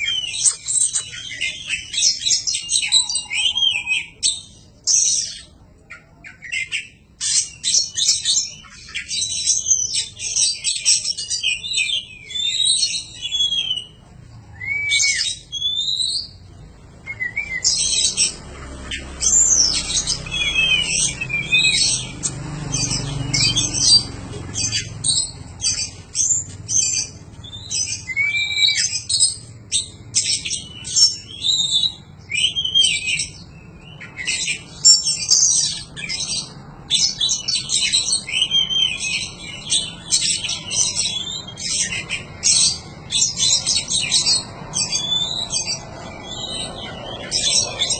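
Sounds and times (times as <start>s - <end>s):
bird singing chirps and trills: 0.0s - 47.9s.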